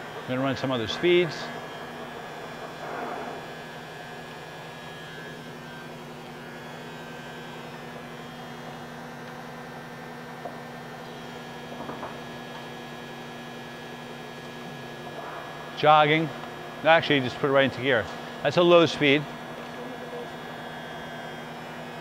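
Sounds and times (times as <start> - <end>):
lathe drive electric hum: 0.0 - 22.0.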